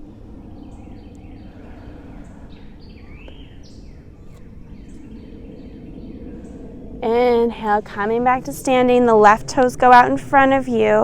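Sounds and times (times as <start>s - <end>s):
low background rumble: 0.0s - 11.0s
songbirds chirping: 0.0s - 11.0s.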